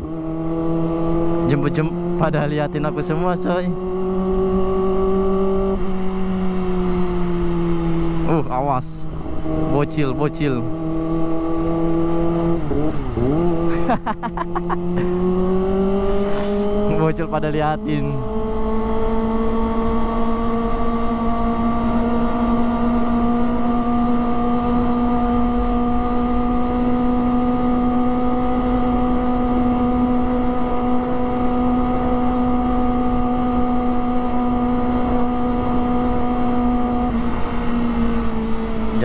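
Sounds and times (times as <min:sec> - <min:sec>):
motorcycle engine at high revs: 0:00.0 - 0:39.0.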